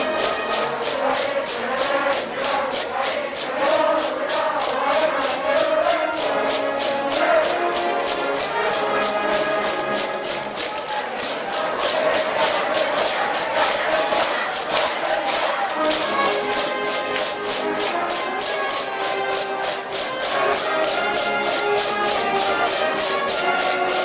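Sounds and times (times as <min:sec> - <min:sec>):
brass band playing: 0:00.0 - 0:24.0
students singing and chanting: 0:00.0 - 0:24.0.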